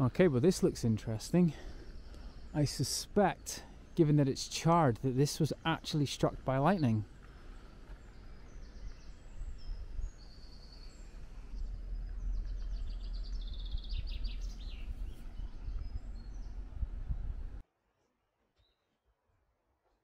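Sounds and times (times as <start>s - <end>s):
small birds singing: 0.0s - 17.6s
steady low rumble: 0.0s - 17.6s.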